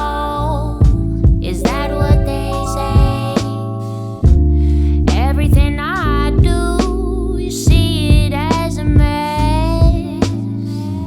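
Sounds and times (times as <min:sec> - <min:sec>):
instrumental hip-hop beat: 0:00.0 - 0:11.0.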